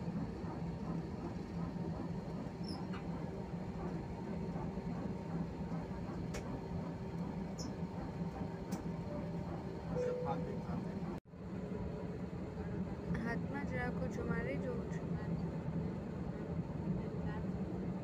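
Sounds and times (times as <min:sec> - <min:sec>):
jet engine cabin hum: 0:00.0 - 0:18.0.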